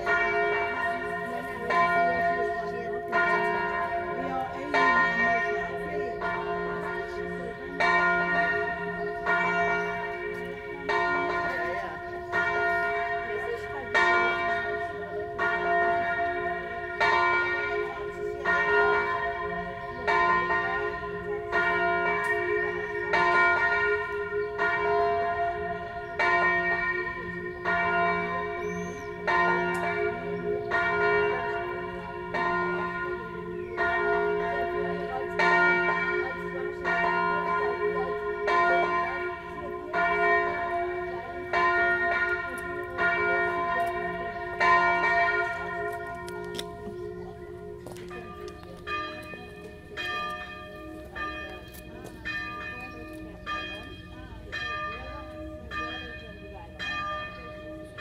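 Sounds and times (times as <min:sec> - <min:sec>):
church bell ringing: 0:00.0 - 0:58.0.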